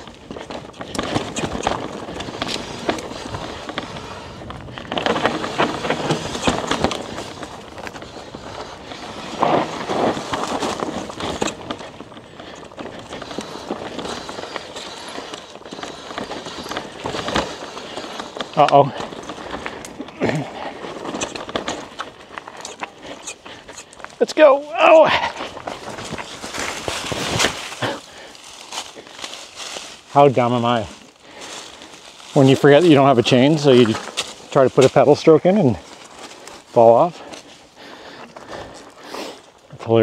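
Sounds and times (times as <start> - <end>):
bike clicks and rattles: 0.0 - 40.0
bike tyres on dirt trail: 0.0 - 40.0.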